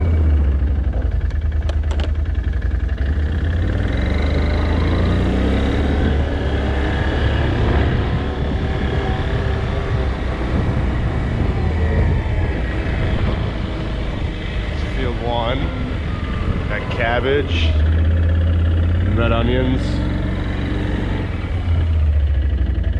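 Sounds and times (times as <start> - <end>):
engine rumbling steadily: 0.0 - 22.9.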